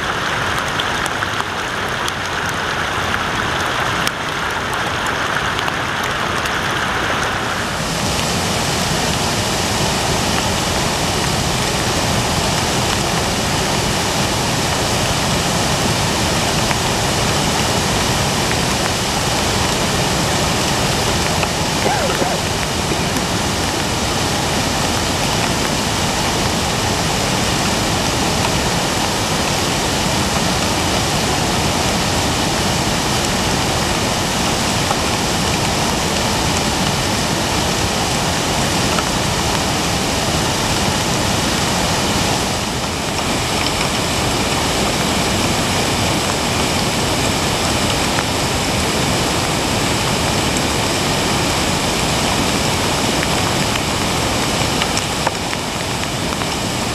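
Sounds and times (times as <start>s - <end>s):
floodwater rushing: 0.1s - 56.9s.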